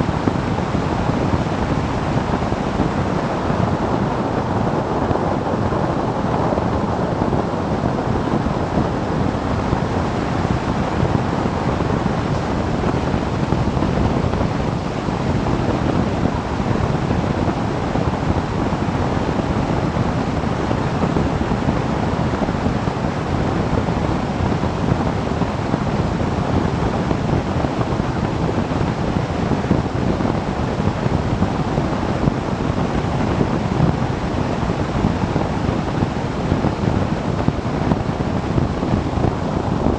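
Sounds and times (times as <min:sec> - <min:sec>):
motorcycle engine and road noise: 0:00.0 - 0:39.9
wind rush on microphone: 0:00.0 - 0:39.9.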